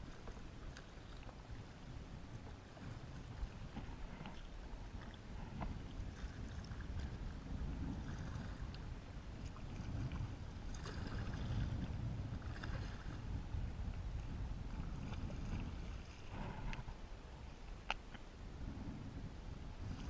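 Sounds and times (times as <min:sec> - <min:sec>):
low rumble of water and wind: 0:00.0 - 0:20.0.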